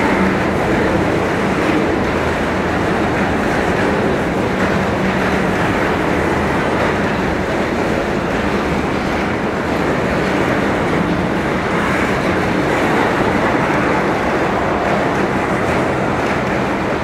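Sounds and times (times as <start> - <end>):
steel train wheels on rails: 0.0 - 17.0.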